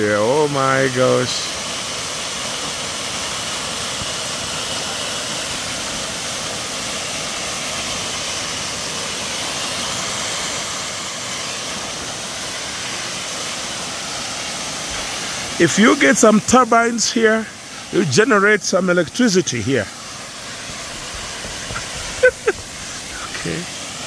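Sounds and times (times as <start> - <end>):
small waterfall rushing: 0.0 - 24.0.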